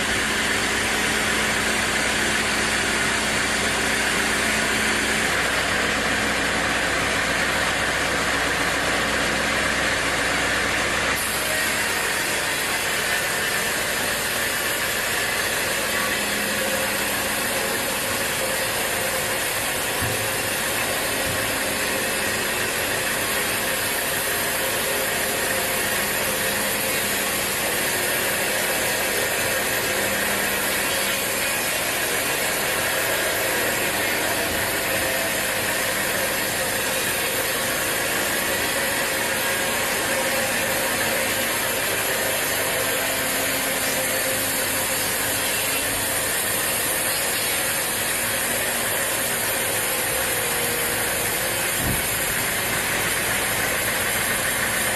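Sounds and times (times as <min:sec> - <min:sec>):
sawmill saw running: 0:00.0 - 0:54.9.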